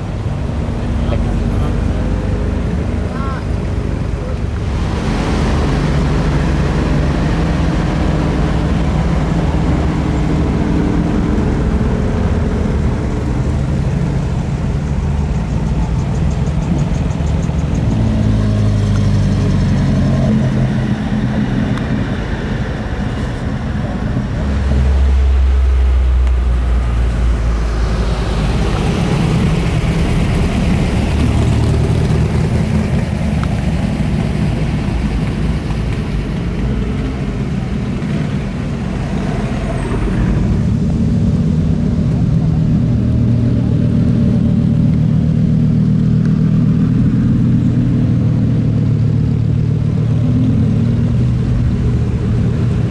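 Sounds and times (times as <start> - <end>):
car engines passing: 0.0 - 52.9.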